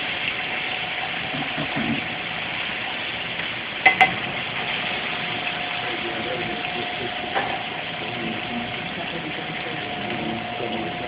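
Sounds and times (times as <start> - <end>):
fish sizzling in a pan: 0.0 - 11.0
low machine hum: 0.0 - 11.0.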